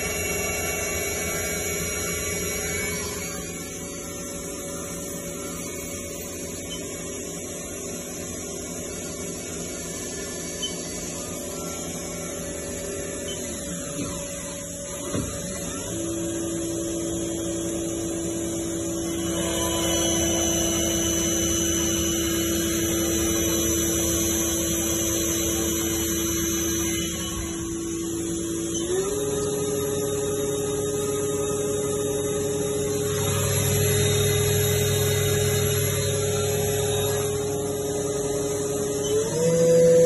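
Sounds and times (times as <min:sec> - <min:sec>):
machine hum: 0:00.0 - 0:40.0
machine spindle whine: 0:00.0 - 0:40.0.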